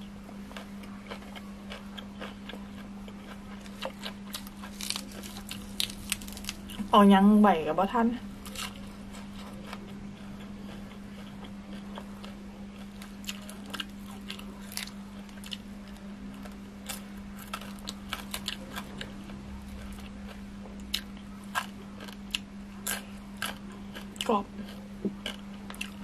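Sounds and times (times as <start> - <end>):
person chewing: 0.4 - 6.8, 8.4 - 26.0
food crunching: 0.5 - 6.9, 8.4 - 26.0.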